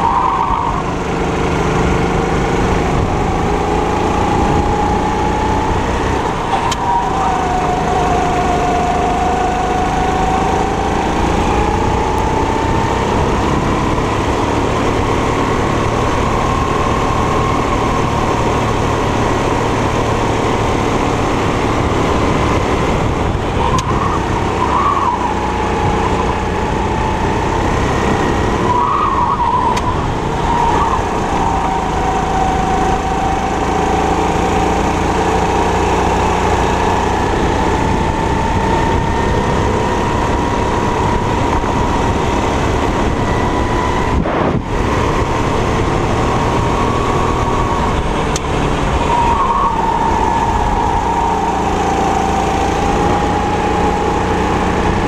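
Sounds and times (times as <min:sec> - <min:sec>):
kart engine whining: 0:00.0 - 0:55.0.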